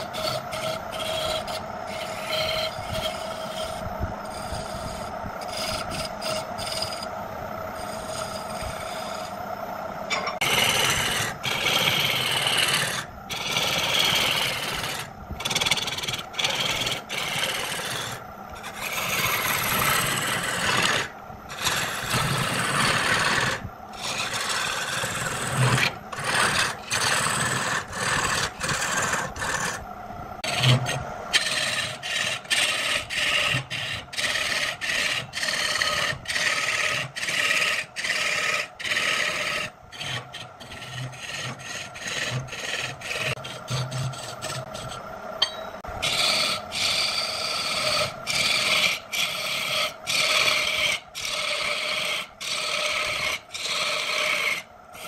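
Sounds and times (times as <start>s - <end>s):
rasp scraping wood: 0.0s - 7.1s, 10.1s - 29.8s, 30.4s - 45.0s, 46.0s - 55.0s.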